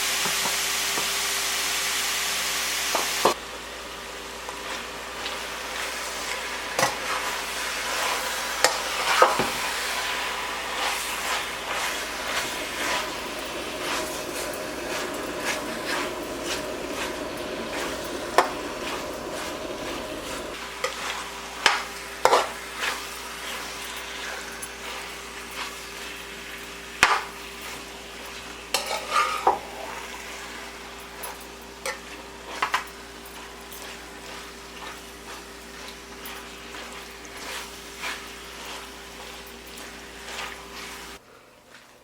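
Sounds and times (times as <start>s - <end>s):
chicken sizzling in hot oil: 0.0s - 41.2s.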